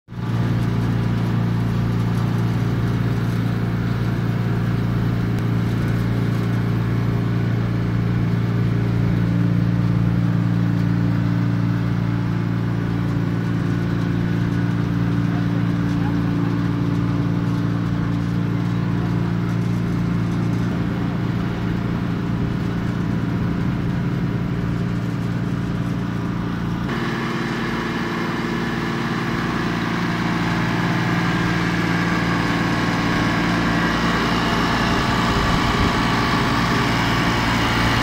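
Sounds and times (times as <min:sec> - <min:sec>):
condensing unit humming: 0:00.2 - 0:38.0.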